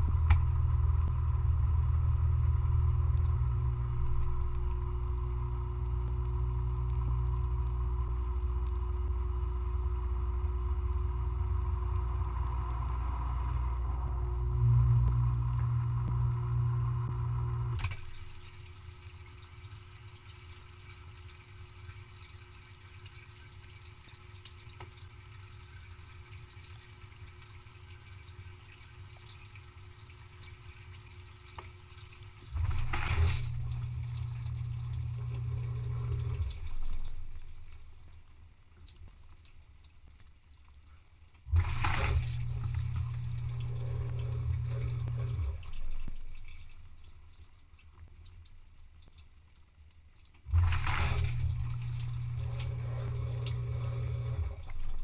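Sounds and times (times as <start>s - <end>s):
dishwasher pump humming: 0.0s - 39.0s, 41.3s - 49.2s, 50.3s - 55.0s
water trickling and dripping: 0.0s - 55.0s.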